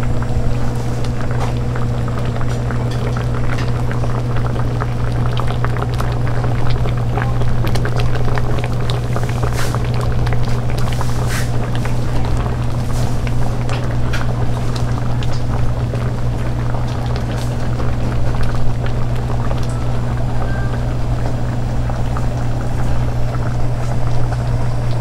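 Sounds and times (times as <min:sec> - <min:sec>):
food popping and crackling: 0:00.0 - 0:25.0
steady low hum: 0:00.0 - 0:25.0.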